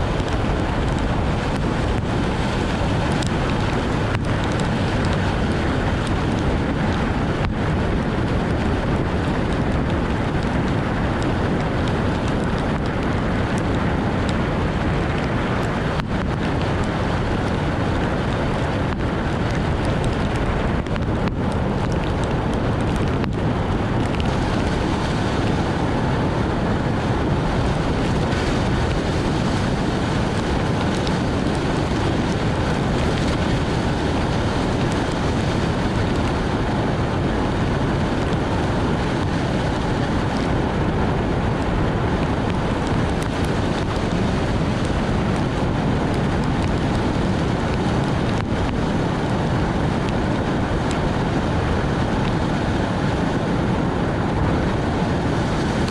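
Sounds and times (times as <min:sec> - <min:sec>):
heavy rain: 0:00.0 - 0:55.9
road and wind noise: 0:00.0 - 0:55.9
tyres spraying on wet road: 0:00.0 - 0:55.9.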